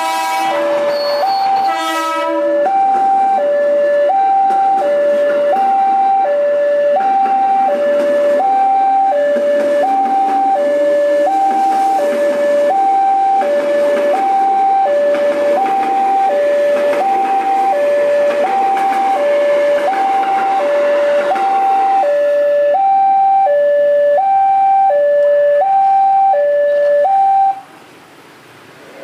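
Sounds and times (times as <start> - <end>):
rushing noise: 0.0 - 23.4
level crossing two-tone alarm: 0.7 - 27.6.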